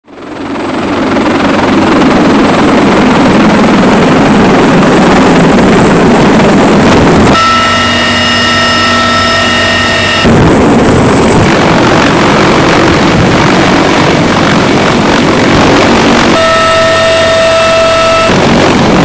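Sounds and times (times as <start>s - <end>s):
helicopter rotor and turbine roar: 0.0s - 19.0s
high-pitched turbine whine: 0.2s - 19.0s
rotor wash buffeting microphone: 1.4s - 19.0s.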